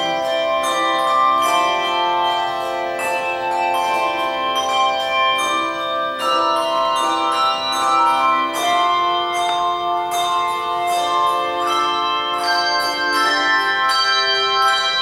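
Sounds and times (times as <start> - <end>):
handbell chords ringing: 0.0 - 15.0.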